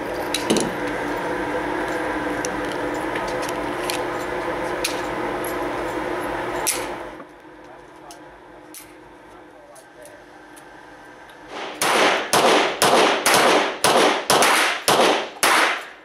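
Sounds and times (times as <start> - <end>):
ventilation hum: 0.0 - 16.0.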